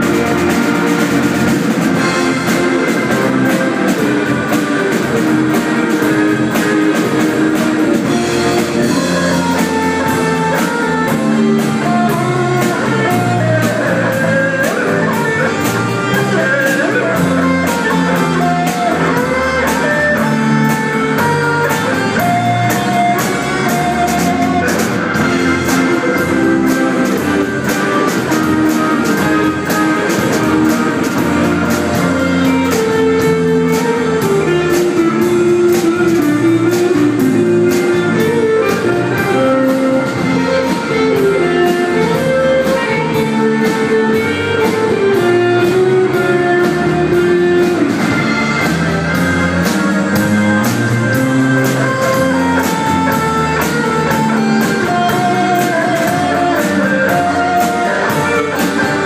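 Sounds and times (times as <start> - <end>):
drum kit beat: 0.0 - 59.0
electric guitars: 0.0 - 59.0.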